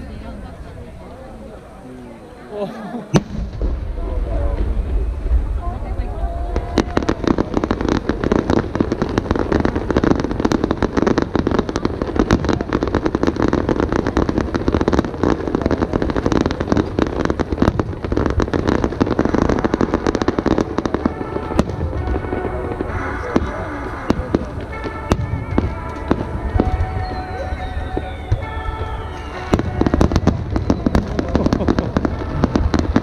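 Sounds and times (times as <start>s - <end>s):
fireworks bursting: 3.0s - 33.0s.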